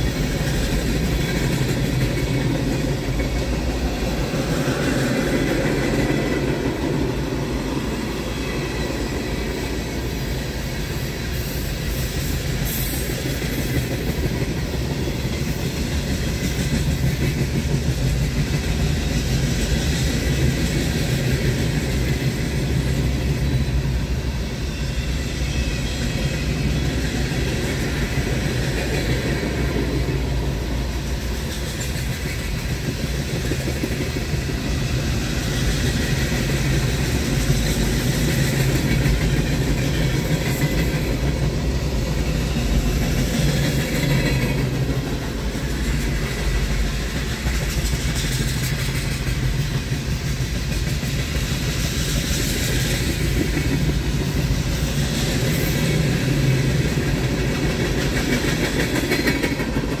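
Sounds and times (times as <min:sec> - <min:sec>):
diesel locomotive engine running: 0:00.0 - 1:00.0.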